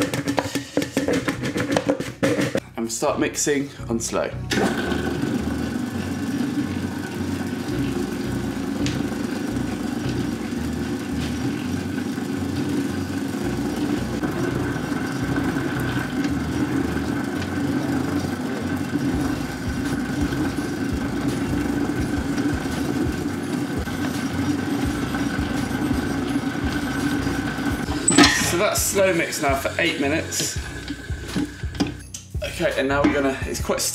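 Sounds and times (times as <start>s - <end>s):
dough mixer running: 4.5s - 32.0s.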